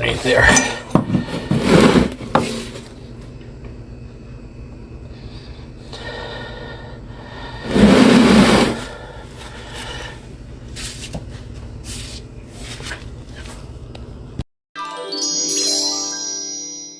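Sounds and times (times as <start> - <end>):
low mechanical hum: 0.0 - 14.4.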